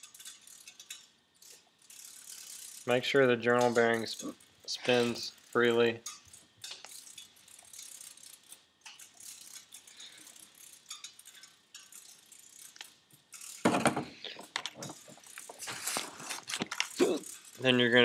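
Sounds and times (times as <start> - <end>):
metallic bearing clicking and rattling: 0.0 - 18.0.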